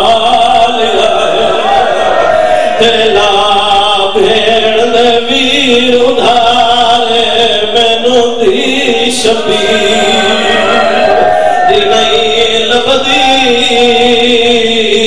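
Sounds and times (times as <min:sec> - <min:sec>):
man chanting into a microphone: 0:00.0 - 0:01.9, 0:02.6 - 0:15.0.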